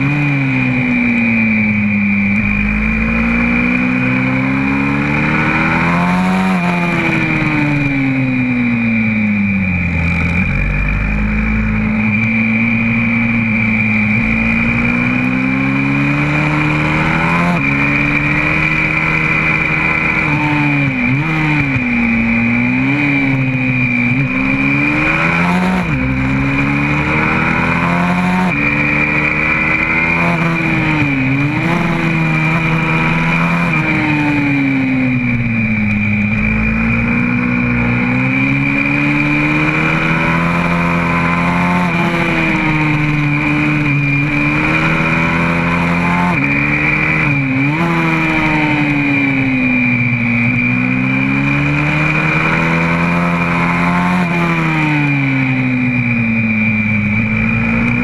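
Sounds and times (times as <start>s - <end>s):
motorcycle engine revving: 0.0s - 58.0s
steady high whine: 0.0s - 58.0s.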